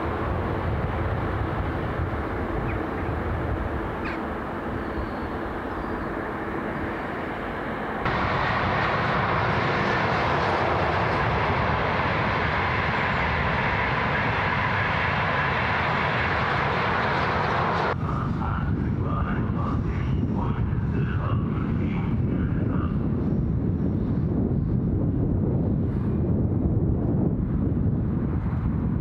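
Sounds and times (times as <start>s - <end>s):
high-speed train rushing past: 0.0s - 29.0s.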